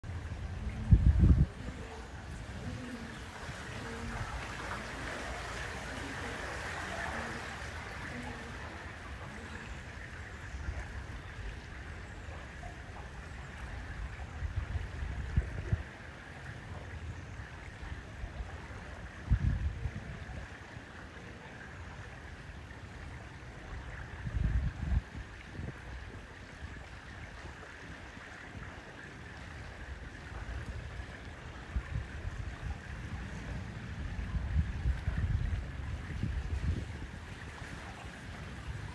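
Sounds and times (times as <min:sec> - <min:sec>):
water rushing along boat hull: 0:00.0 - 0:38.9.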